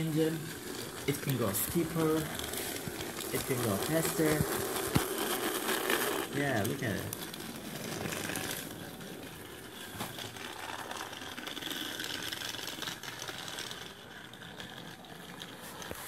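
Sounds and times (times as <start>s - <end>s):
toy train motor whirring and clicking: 0.0s - 16.0s.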